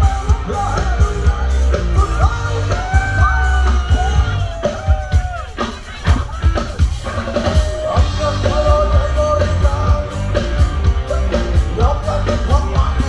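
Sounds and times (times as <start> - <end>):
drum kit: 0.0 - 13.0
heavy bass: 0.0 - 13.0
person singing: 0.0 - 13.0.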